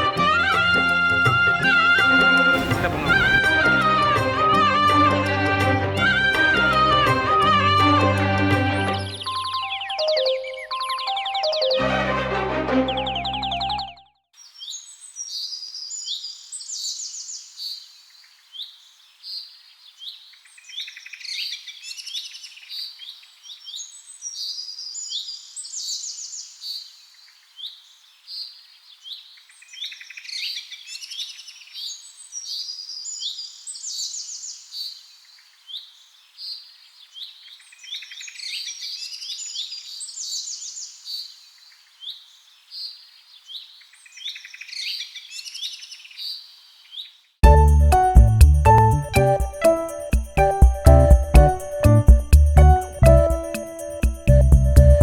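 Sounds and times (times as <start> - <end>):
small birds chirping and twittering: 9.0 - 11.8, 12.9 - 55.0.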